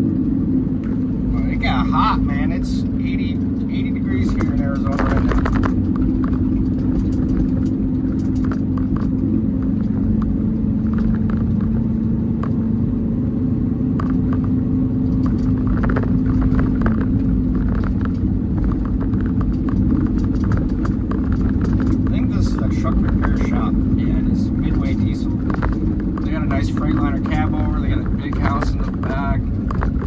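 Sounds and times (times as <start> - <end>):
road rumble: 0.0 - 30.0
truck engine drone: 0.0 - 30.0.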